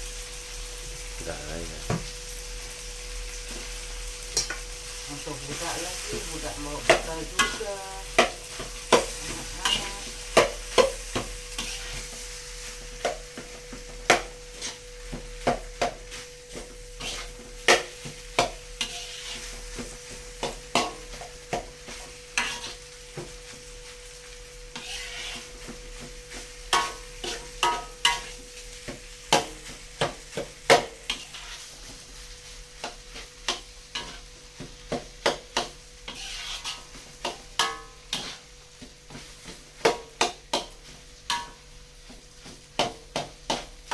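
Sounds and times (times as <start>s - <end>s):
faint sizzle: 0.0s - 43.9s
spatula scraping a frying pan: 5.5s - 43.9s.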